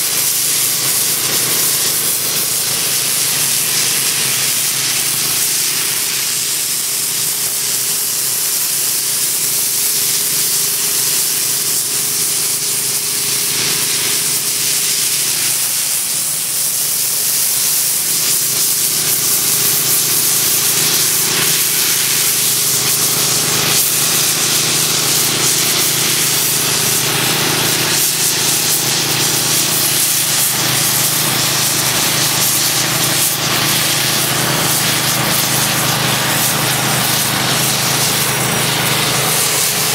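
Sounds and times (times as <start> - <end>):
hot compressed air lance hissing: 0.0 - 39.9.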